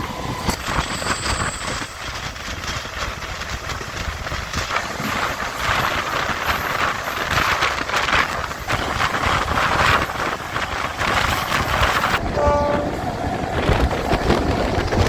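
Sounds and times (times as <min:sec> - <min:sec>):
electric train rushing along track: 0:00.0 - 0:15.0.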